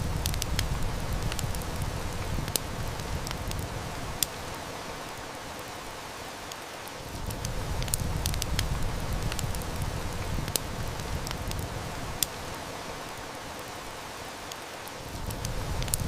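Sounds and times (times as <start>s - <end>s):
heavy rain hissing: 0.0s - 16.0s
wood fire crackling: 0.0s - 16.0s.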